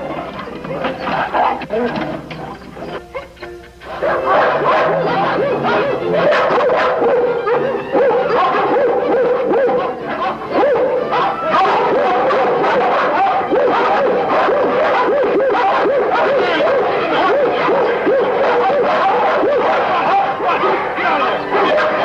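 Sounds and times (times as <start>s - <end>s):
pack of dogs barking and yapping: 0.0s - 22.0s.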